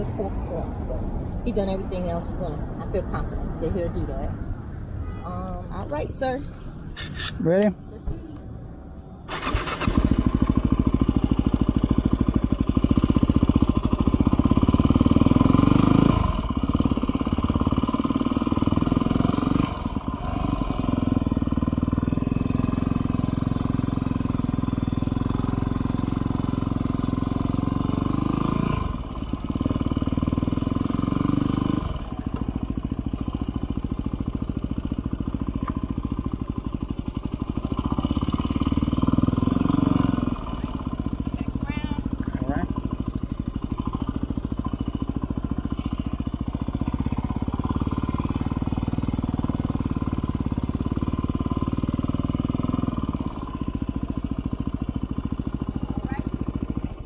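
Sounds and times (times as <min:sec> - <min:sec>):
motorcycle engine accelerating: 0:00.0 - 0:04.8, 0:05.7 - 0:57.0.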